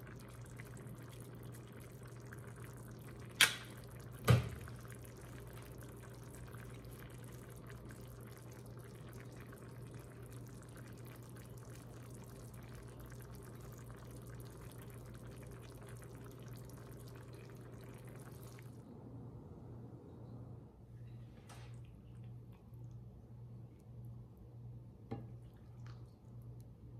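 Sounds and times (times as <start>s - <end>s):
low steady hum: 0.0s - 26.9s
sauce bubbling softly: 0.0s - 26.9s.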